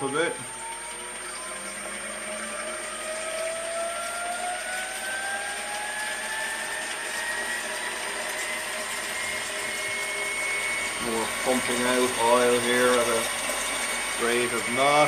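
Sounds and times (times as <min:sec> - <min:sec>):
electric motor whine rising: 0:00.0 - 0:15.0.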